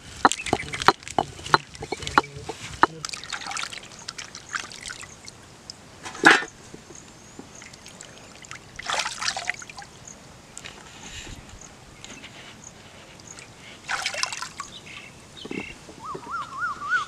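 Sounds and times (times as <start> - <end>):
water trickling and splashing: 0.0 - 11.0, 12.6 - 15.5.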